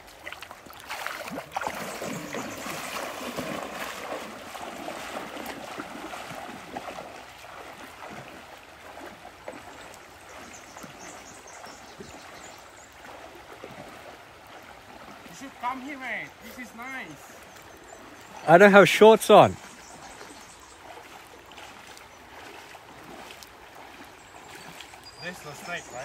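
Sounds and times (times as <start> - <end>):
river water running: 0.0 - 26.0
splashing wading footsteps: 0.0 - 26.0.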